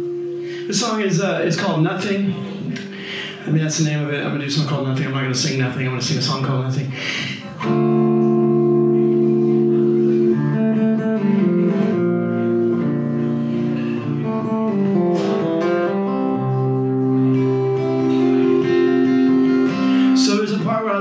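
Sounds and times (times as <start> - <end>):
guitar playing sustained chords: 0.0 - 5.9, 7.5 - 21.0.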